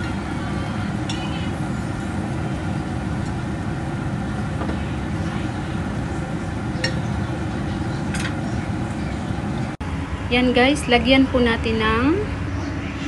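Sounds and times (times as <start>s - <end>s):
stovetop cooking rumble: 0.0s - 13.0s.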